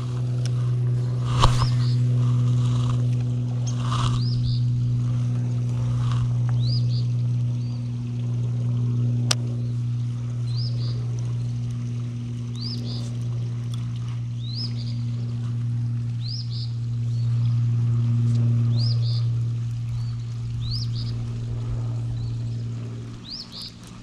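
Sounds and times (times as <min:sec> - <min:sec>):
bird rising chirp: 0:00.0 - 0:08.4, 0:09.5 - 0:13.6, 0:14.2 - 0:15.4, 0:16.2 - 0:24.0
low machine hum: 0:00.0 - 0:24.0.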